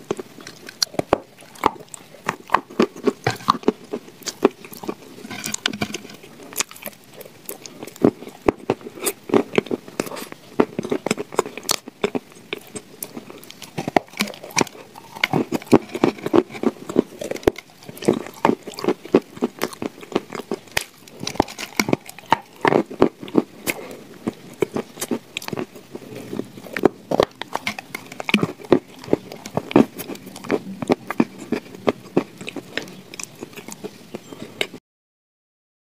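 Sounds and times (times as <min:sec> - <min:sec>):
person crunching cookies: 0:00.0 - 0:34.8.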